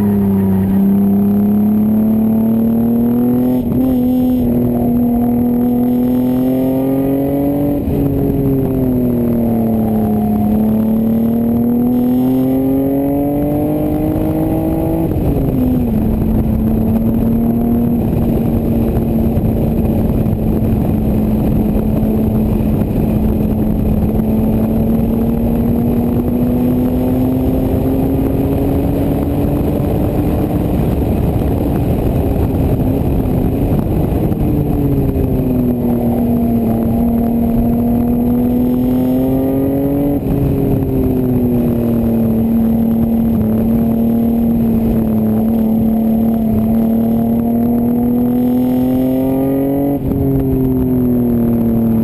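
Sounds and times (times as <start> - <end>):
car engine running hard: 0.0 - 52.0
wind and road noise: 0.0 - 52.0.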